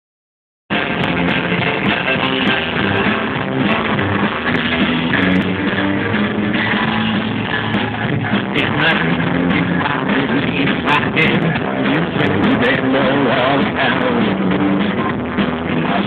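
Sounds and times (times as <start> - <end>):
drums: 0.7 - 16.0
electric guitar: 0.7 - 16.0
upright double bass: 0.7 - 16.0.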